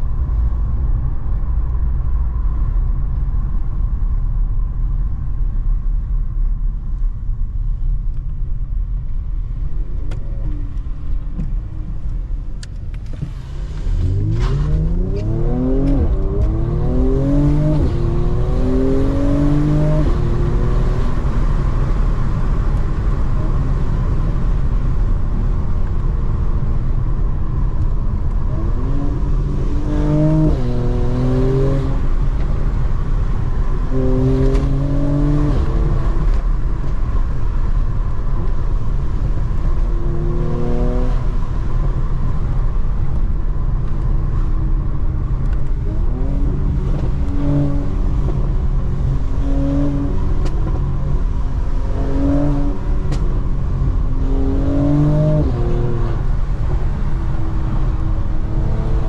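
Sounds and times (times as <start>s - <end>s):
low road rumble: 0.0s - 59.0s
car engine accelerating: 9.2s - 59.0s.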